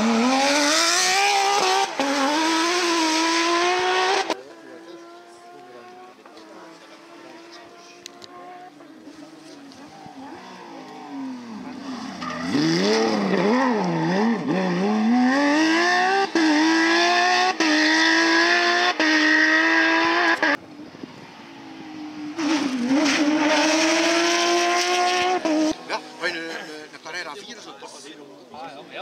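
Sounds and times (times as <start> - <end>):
car accelerating hard: 0.0 - 8.8, 10.2 - 20.6, 21.7 - 26.2
car engine revving: 0.0 - 9.6, 10.3 - 20.6, 21.6 - 26.6.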